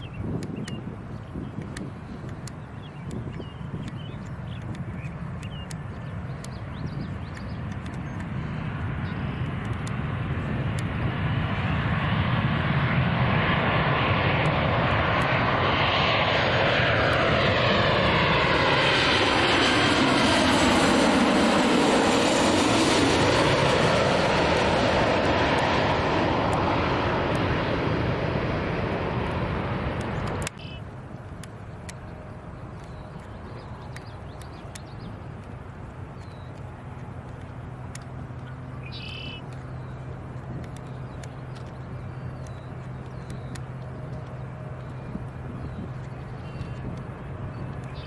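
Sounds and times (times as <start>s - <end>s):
airliner passing overhead: 0.0s - 48.0s.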